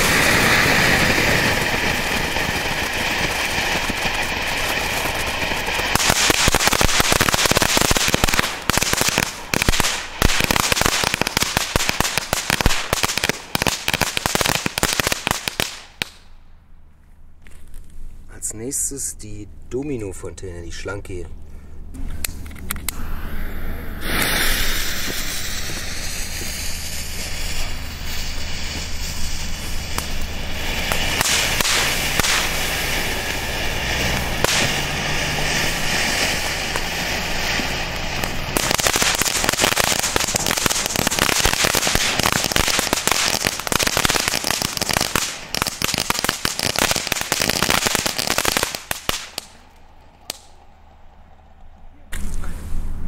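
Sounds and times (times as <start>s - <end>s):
hissing and crackling sparks: 0.0s - 16.4s, 22.2s - 50.9s.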